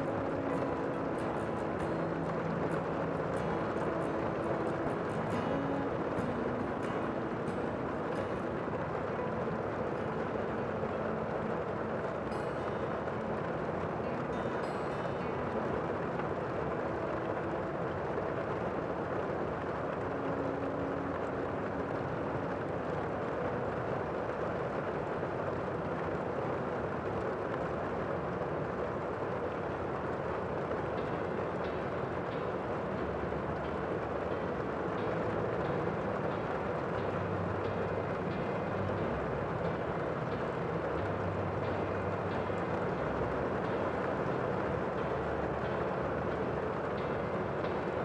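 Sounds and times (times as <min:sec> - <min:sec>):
steady rushing noise: 0:00.0 - 0:48.0.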